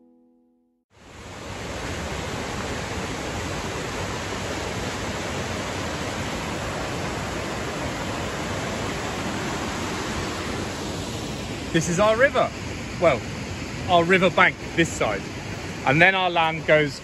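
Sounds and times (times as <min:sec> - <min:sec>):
river rushing over rocks: 0:01.0 - 0:17.0.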